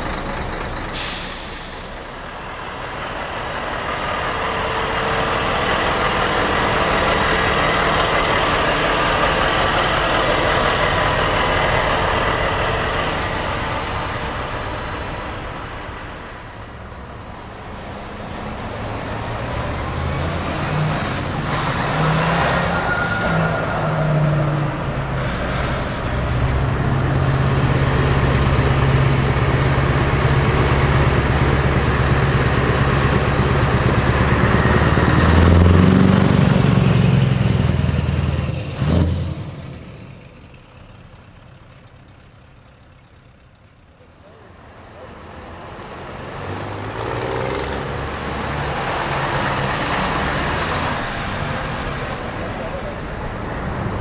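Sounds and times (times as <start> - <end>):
diesel engine approaching: 0.0 - 54.0
trucks driving past: 0.0 - 54.0.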